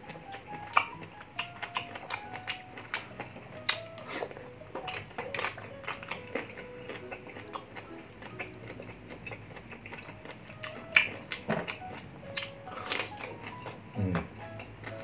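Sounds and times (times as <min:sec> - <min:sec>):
mango being bitten and chewed: 0:00.0 - 0:15.0
soft background music: 0:00.0 - 0:15.0.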